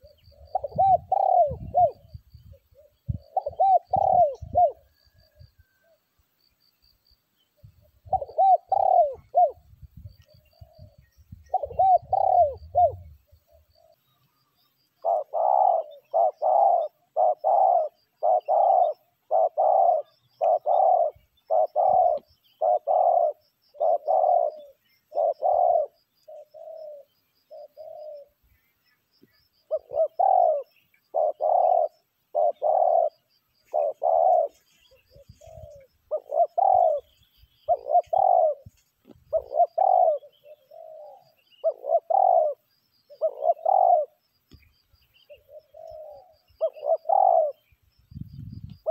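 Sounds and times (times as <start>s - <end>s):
doves cooing: 0.0s - 6.1s, 7.8s - 44.2s, 45.2s - 47.8s
small birds chirping: 0.0s - 48.9s.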